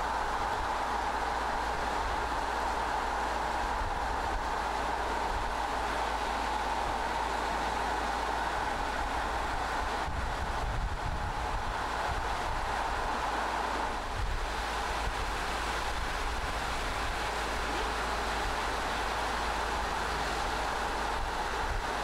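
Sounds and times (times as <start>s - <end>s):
car tyre and wind noise: 0.0s - 22.0s.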